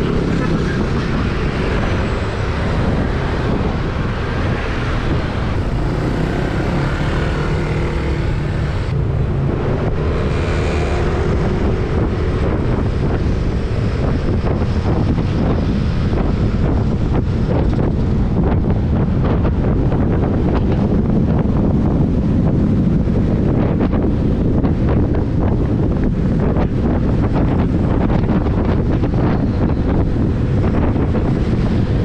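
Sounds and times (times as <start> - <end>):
vehicle road noise: 0.0 - 32.0
wind buffeting microphone: 0.0 - 32.0.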